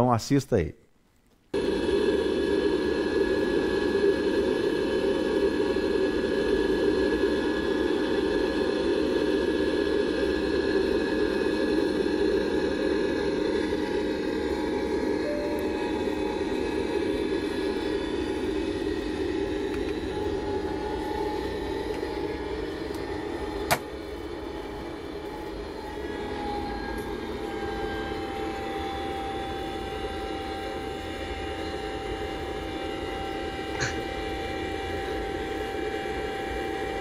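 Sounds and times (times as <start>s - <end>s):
airliner cabin engine noise: 1.5s - 37.0s.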